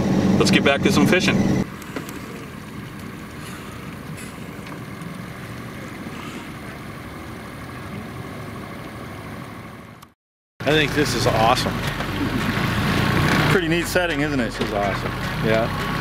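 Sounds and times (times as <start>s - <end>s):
wind and water noise: 0.0s - 16.0s.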